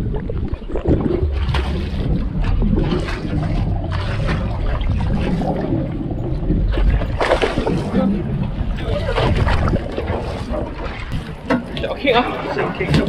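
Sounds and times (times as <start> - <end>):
low rumble: 0.0 - 11.8
muffled underwater water rushing: 0.0 - 13.0.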